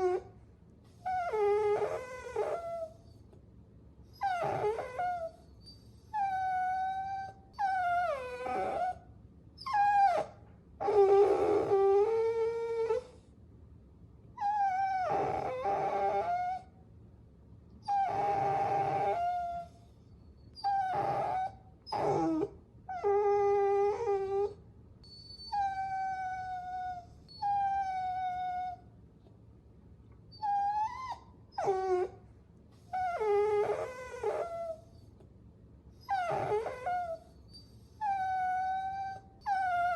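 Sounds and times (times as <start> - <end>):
puppies whining: 0.0 - 0.3, 0.9 - 3.3, 4.1 - 9.0, 9.6 - 13.2, 14.4 - 16.7, 17.8 - 28.8, 30.3 - 32.2, 32.8 - 35.1, 36.0 - 39.9.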